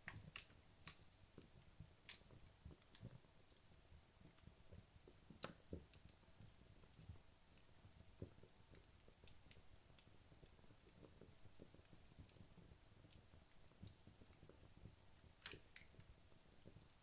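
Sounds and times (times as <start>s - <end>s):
wood logs crackling in fireplace: 0.0s - 17.0s.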